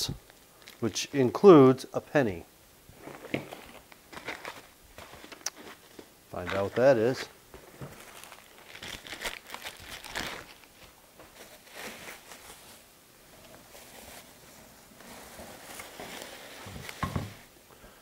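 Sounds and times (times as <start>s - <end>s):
bubble wrap crinkling: 0.2s - 0.9s, 2.9s - 17.5s.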